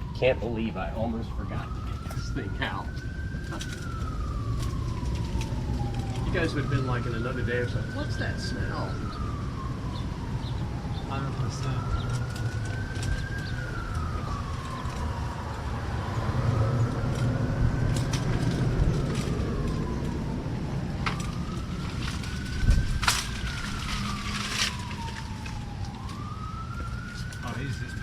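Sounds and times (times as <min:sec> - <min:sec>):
siren wailing: 0:00.0 - 0:28.0.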